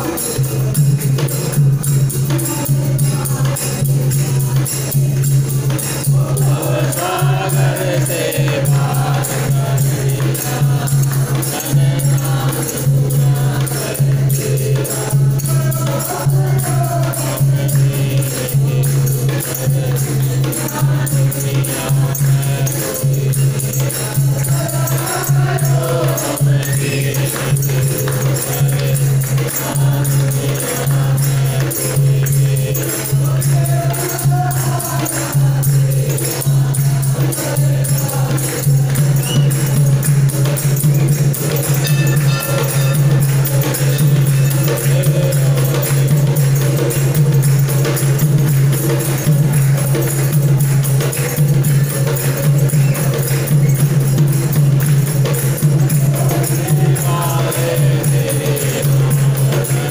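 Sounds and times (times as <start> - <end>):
group singing devotional song: 0.0 - 59.9
jingling hand percussion: 0.0 - 59.9.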